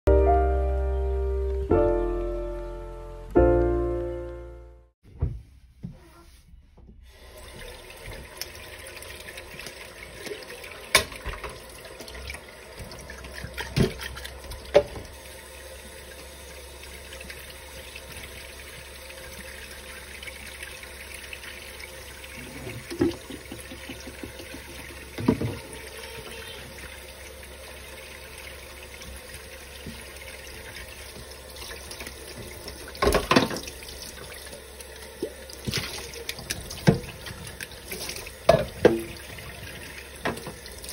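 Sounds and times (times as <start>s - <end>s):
water running into sink: 7.1s - 40.9s.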